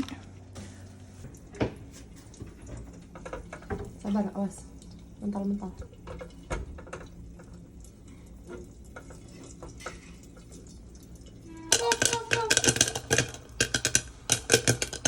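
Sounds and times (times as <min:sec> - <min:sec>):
popcorn popping in a pot: 0:01.4 - 0:15.0.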